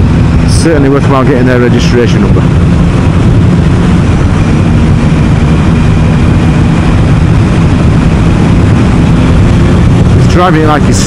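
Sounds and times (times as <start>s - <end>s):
air rush and road noise: 0.0s - 11.0s
motorcycle engine running: 0.0s - 11.0s.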